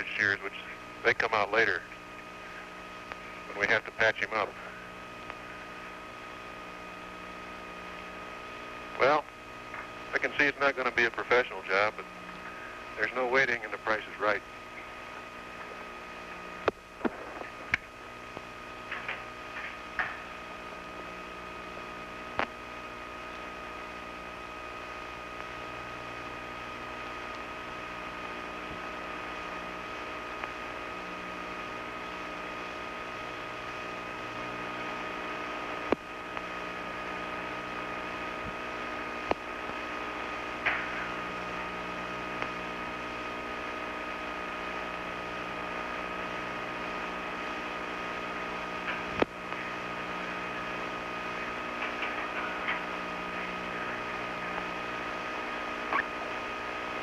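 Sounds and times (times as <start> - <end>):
mechanical hum: 0.0 - 57.0.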